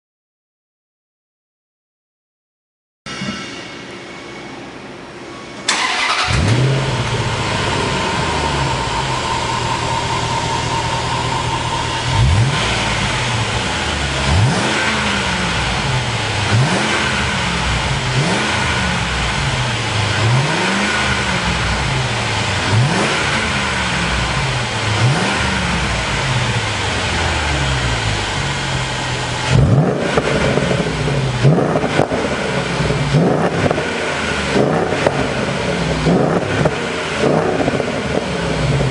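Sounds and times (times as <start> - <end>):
car engine idling and revving: 5.7 - 38.9.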